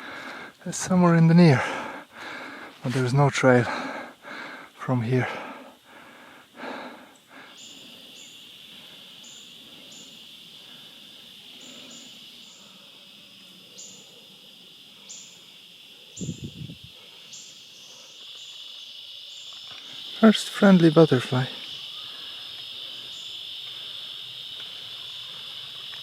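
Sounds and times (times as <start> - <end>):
high insect chirps: 0.0 - 26.0
insects trilling drone: 0.0 - 26.0.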